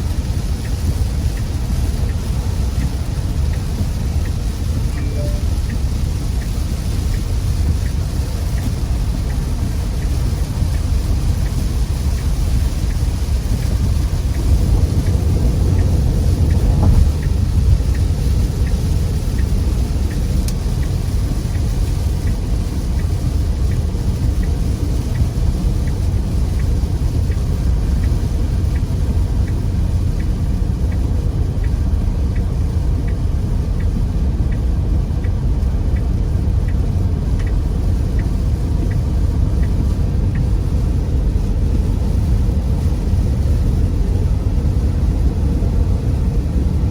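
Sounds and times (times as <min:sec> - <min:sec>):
faint regular ticking: 0:00.0 - 0:44.9
car driving in rain: 0:00.0 - 0:46.9
hiss of rain and spray: 0:00.0 - 0:46.9.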